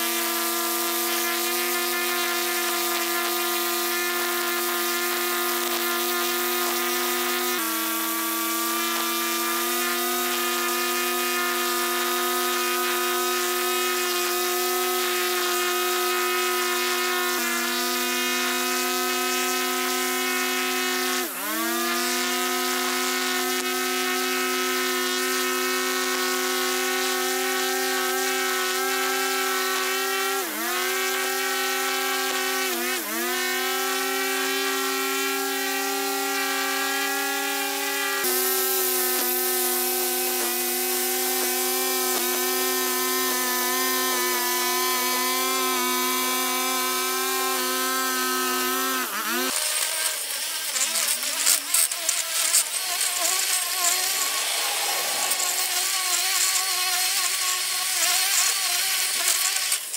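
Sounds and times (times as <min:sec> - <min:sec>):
string trimmer whining: 0:00.0 - 0:59.9.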